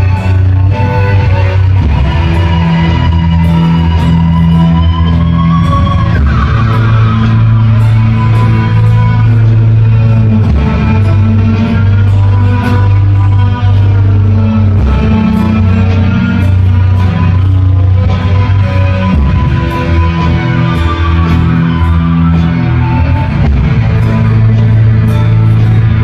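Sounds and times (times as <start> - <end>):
deep held bass notes: 0.0 - 26.0
live band playing instrumental: 0.0 - 26.0.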